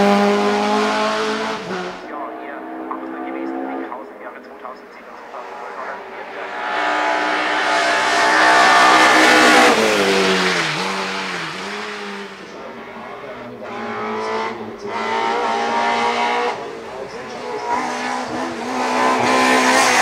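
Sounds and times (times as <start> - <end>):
racing car engine at high revs: 0.0 - 20.0.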